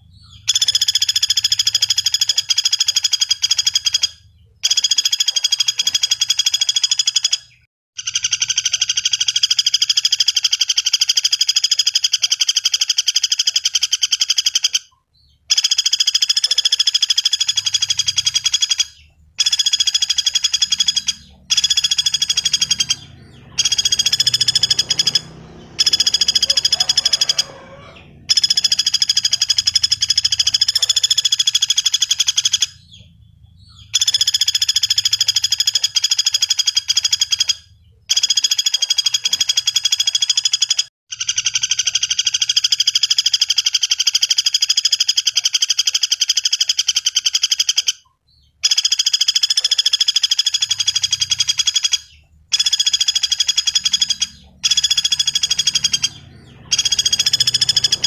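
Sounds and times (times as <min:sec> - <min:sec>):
woodpecker calling in fast trills: 0:00.0 - 0:58.0.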